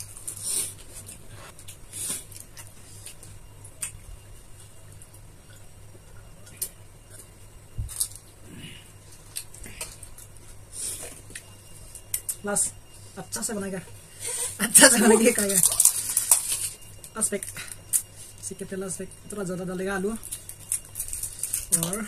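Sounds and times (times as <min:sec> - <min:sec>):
crunching of food shells: 0:00.0 - 0:12.4, 0:14.9 - 0:18.4, 0:20.0 - 0:22.0.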